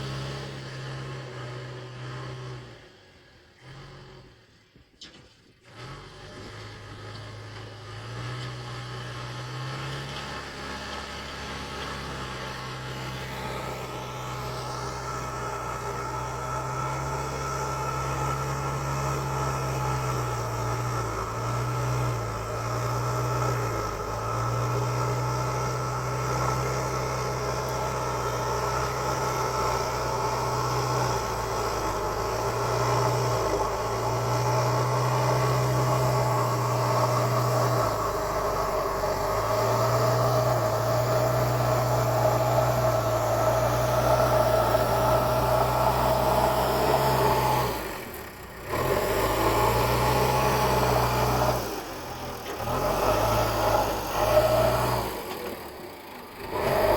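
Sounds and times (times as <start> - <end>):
diesel engine running: 0.0 - 4.6, 5.6 - 56.9.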